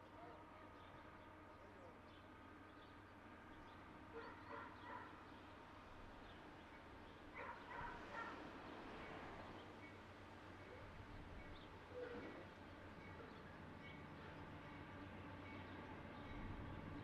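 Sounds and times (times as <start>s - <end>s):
distant diesel train rumble: 0.0s - 17.0s.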